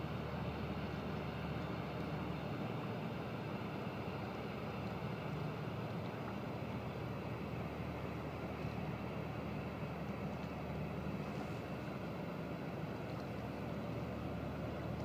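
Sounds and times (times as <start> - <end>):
distant ferry engines rumbling: 0.0 - 15.0.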